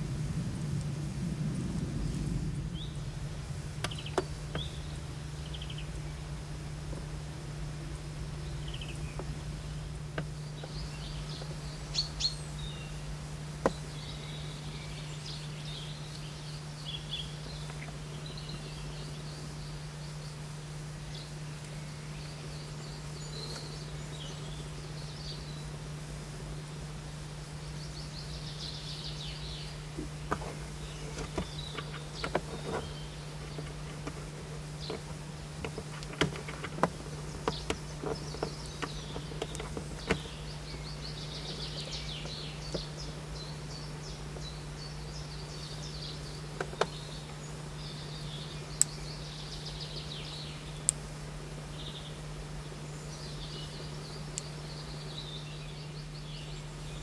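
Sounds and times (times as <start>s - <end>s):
small songbirds singing: 0.0s - 57.0s
steady low hum: 0.0s - 57.0s.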